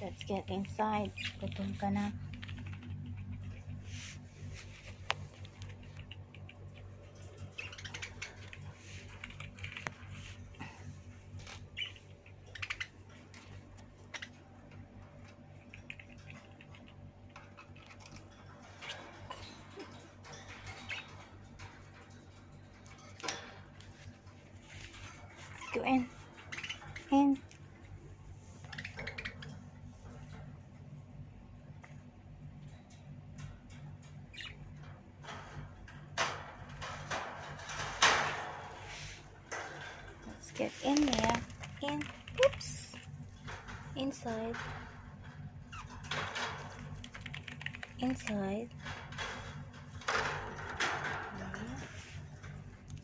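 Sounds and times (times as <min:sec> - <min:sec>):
cage rattle: 0:00.0 - 0:53.0
steady low hum: 0:00.0 - 0:53.0.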